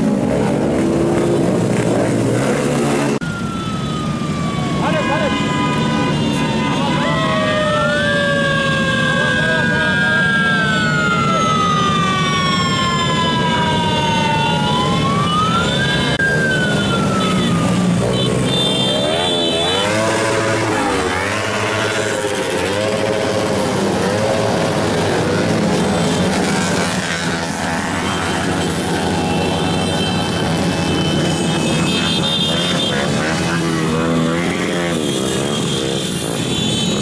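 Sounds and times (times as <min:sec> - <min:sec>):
motorcycle engines: 0:00.0 - 0:37.0
sirens wailing: 0:00.0 - 0:37.0.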